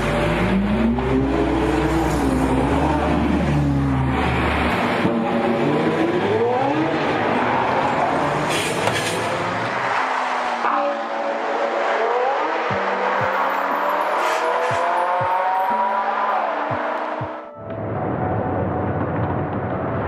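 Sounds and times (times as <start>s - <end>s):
car engine revving hard: 0.0s - 17.3s.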